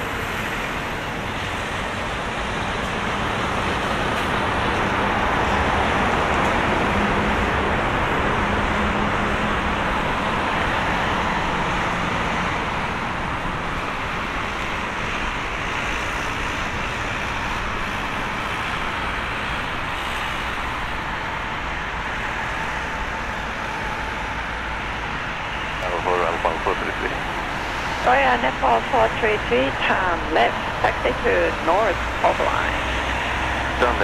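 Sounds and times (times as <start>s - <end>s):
jet engines roaring: 0.0s - 34.0s
low engine hum: 0.0s - 34.0s.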